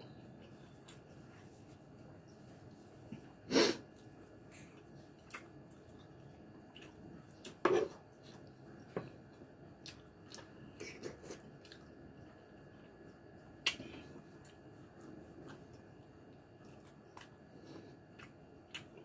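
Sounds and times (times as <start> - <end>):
person chewing with wet smacks: 0.1 - 19.0.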